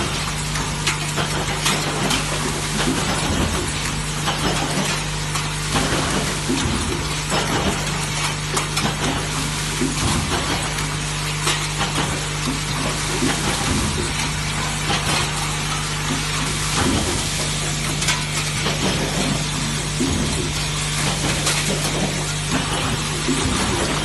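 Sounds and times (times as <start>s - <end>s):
spot welding machine hum: 0.0s - 24.0s.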